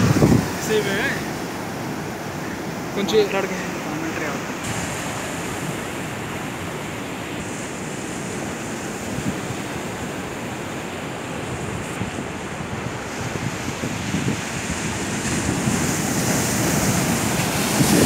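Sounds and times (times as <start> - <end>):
sea waves breaking over rocks: 0.0 - 18.0.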